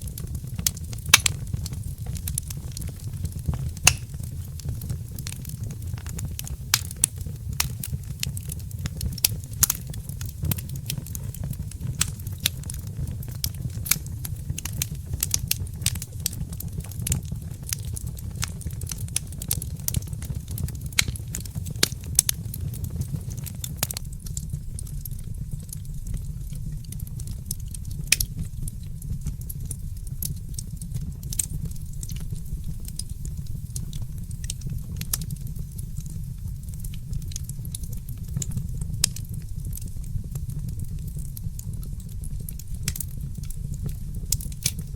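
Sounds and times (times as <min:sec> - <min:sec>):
fire crackling: 0:00.0 - 0:44.9
pops and snaps of fire: 0:00.0 - 0:44.9.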